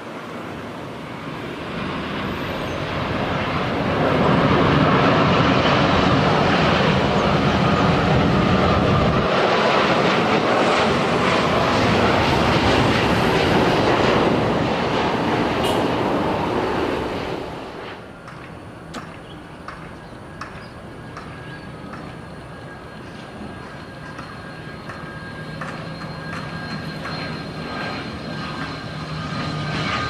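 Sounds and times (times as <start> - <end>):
jet engines on landing approach: 0.0 - 30.0.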